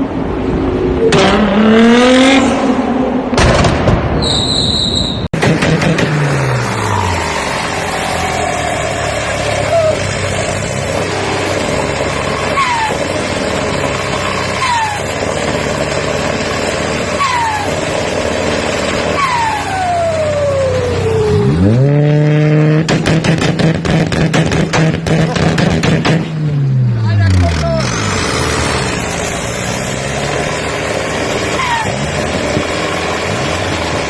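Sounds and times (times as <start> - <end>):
loud car engine and exhaust: 0.0 - 34.0.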